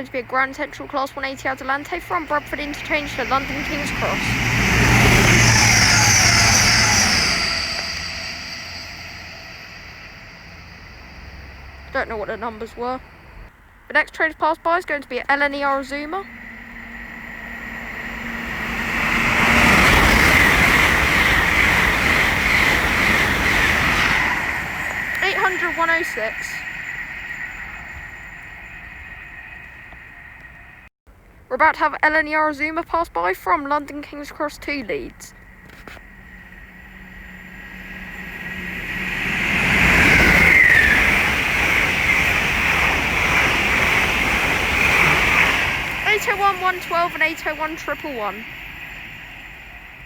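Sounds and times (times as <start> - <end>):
falling whine: 0.0 - 13.5, 15.5 - 30.9, 35.3 - 50.0
train passing at speed: 0.0 - 30.9, 33.5 - 50.0.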